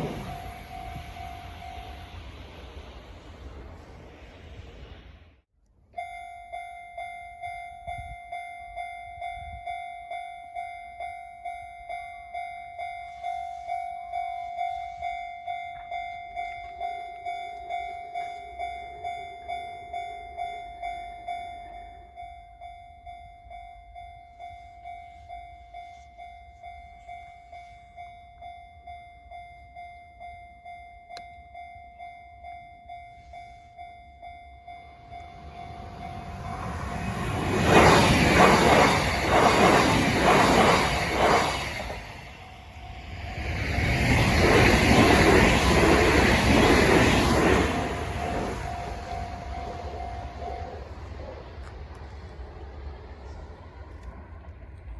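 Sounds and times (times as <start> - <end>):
level crossing warning bell: 0.0 - 3.1, 5.8 - 52.0
passing train: 0.0 - 54.9.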